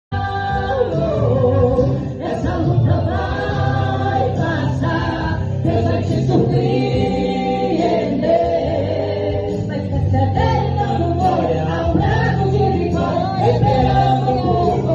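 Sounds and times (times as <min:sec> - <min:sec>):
vocal group singing in harmony: 0:00.1 - 0:14.9.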